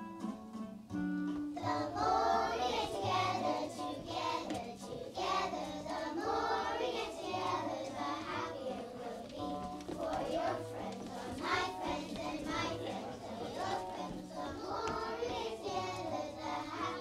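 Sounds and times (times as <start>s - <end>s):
acoustic guitar: 0.0s - 17.0s
children singing together: 1.6s - 17.0s.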